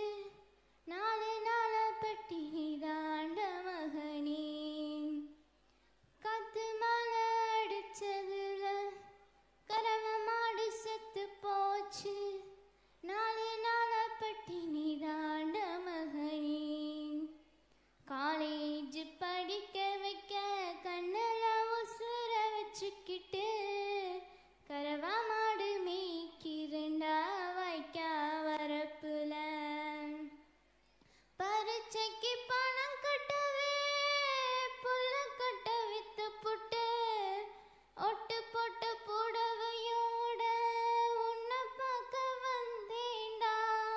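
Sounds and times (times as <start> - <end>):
girl singing unaccompanied: 0.0 - 30.5, 31.3 - 43.9.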